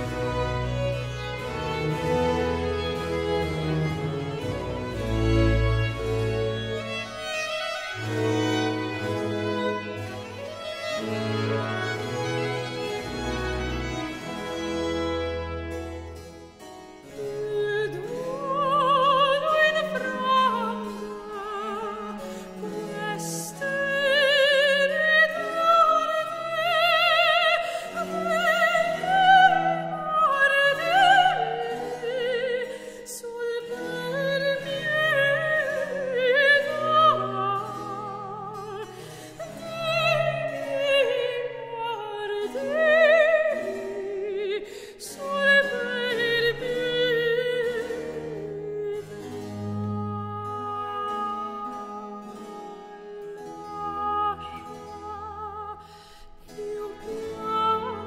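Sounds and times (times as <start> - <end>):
instrumental accompaniment: 0.0 - 58.0.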